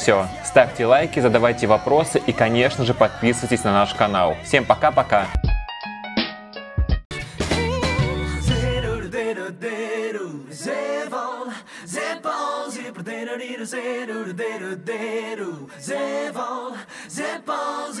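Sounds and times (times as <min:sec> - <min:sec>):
voices singing a cappella: 0:00.0 - 0:05.4, 0:07.4 - 0:18.0.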